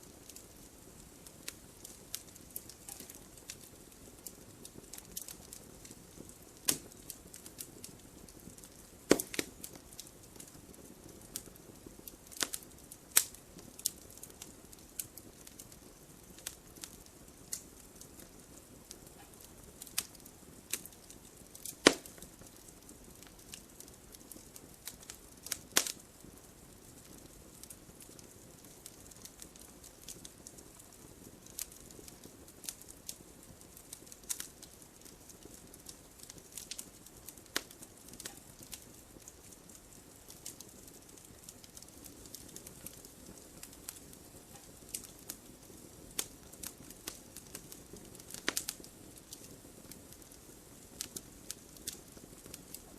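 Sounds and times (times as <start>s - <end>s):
campfire crackling and popping: 0.0s - 52.9s
faint low hiss: 0.0s - 52.9s.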